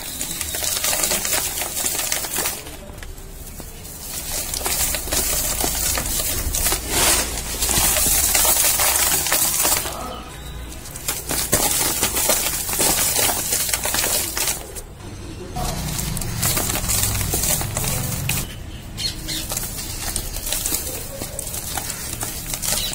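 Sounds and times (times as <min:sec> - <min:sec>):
cardboard crackling and tearing: 0:00.0 - 0:22.9.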